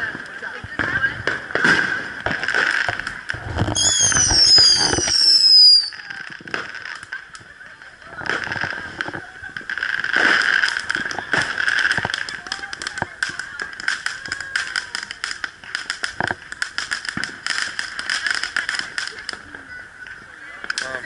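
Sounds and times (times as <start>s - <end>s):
whistling fireworks screaming: 0.0s - 7.6s, 8.2s - 20.2s
fireworks popping and crackling: 0.0s - 21.0s.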